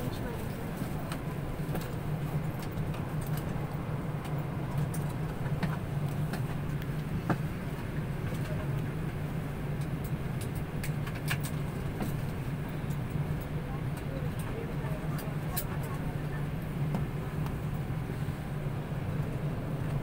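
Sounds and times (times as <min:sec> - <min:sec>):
cabin ventilation hum: 0:00.0 - 0:20.0.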